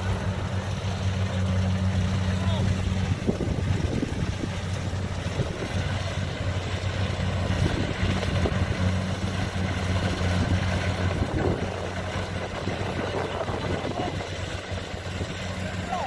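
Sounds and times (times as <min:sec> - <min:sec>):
diesel engine running steadily: 0:00.0 - 0:16.0.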